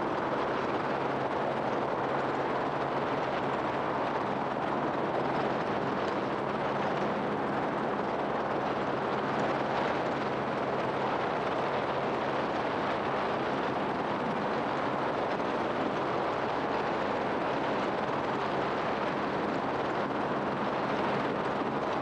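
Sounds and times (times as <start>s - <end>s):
helicopter engine and rotor noise: 0.0s - 22.0s.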